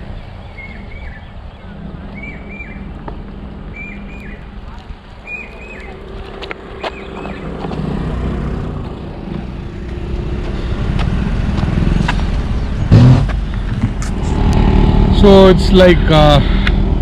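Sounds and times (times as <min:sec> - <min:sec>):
vehicle engine and tyre rumble: 0:00.0 - 0:17.0.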